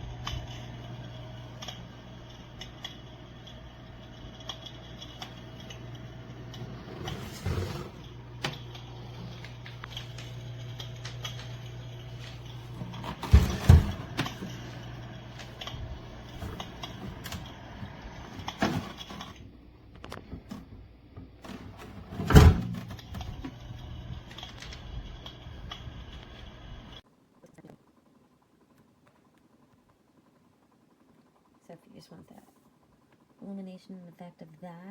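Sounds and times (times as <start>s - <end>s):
heater fan humming: 0.0s - 34.9s.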